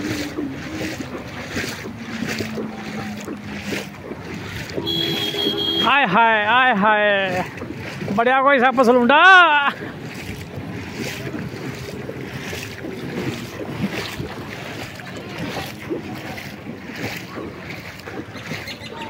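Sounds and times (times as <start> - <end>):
feet wading through muddy water: 0.0 - 19.0.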